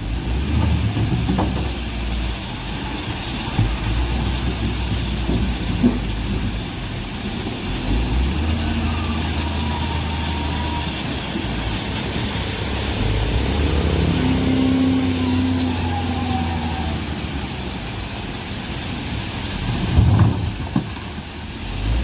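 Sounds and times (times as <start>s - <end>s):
heavy machinery diesel engine rumble: 0.0s - 22.0s.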